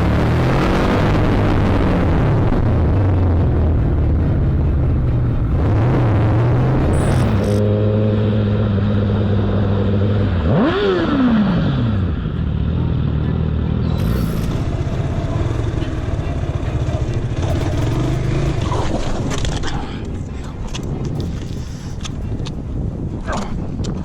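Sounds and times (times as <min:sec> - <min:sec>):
motorcycle engine revving: 0:00.0 - 0:20.2
road noise: 0:00.0 - 0:24.0.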